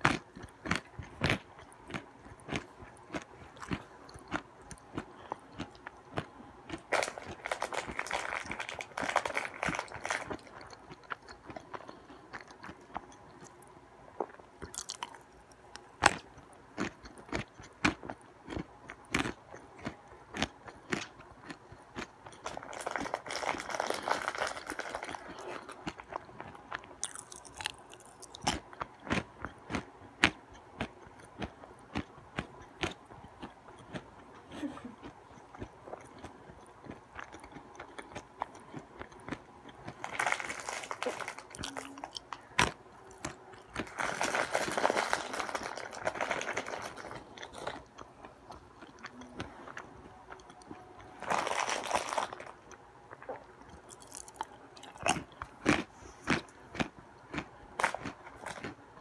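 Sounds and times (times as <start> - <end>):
person chewing crunchy nuts: 0.0 - 59.0.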